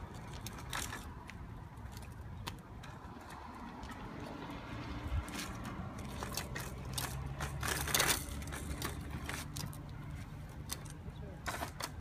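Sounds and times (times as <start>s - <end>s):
plastic wheels rolling on concrete: 0.0s - 12.0s.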